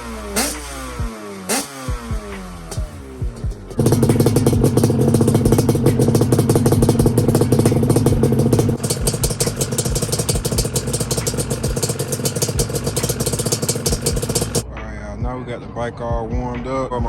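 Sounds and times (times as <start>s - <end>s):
two-stroke engine running: 0.0s - 14.6s.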